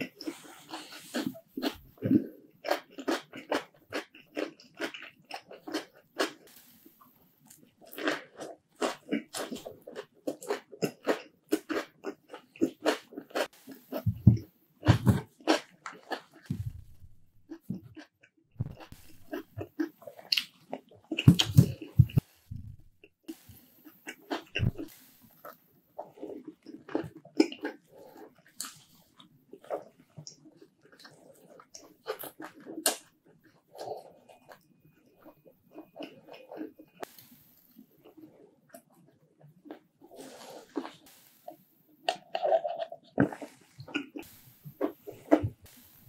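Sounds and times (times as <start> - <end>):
close chewing: 0.0 - 46.0.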